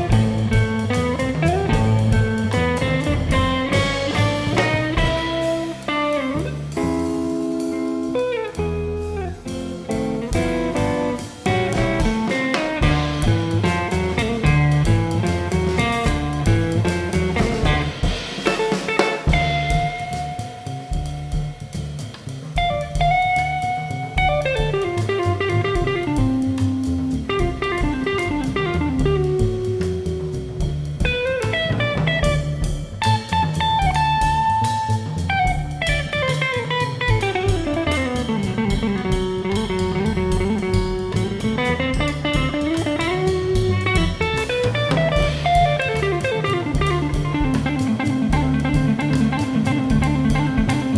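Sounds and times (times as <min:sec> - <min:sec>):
electric guitar lead line: 0:00.0 - 0:21.6, 0:22.6 - 0:50.9
drum kit: 0:00.0 - 0:50.9
upright double bass: 0:00.0 - 0:50.9.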